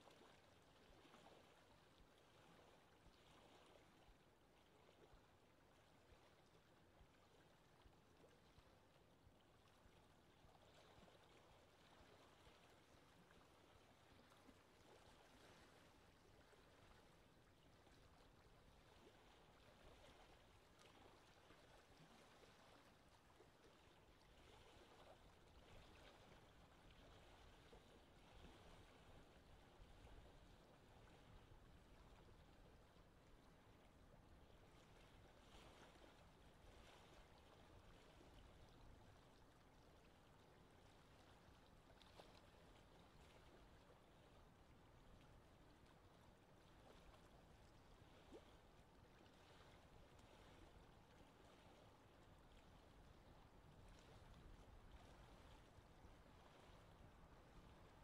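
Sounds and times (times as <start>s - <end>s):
faint lapping water: 0.0s - 58.0s.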